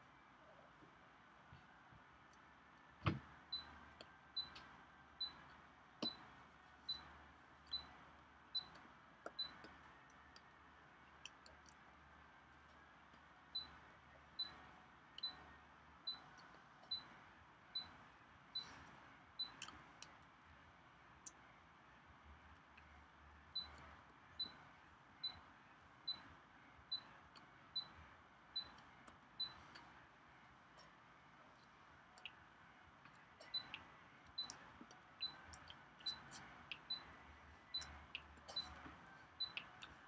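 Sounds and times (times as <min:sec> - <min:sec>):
faint low room hum: 0:00.0 - 0:40.0.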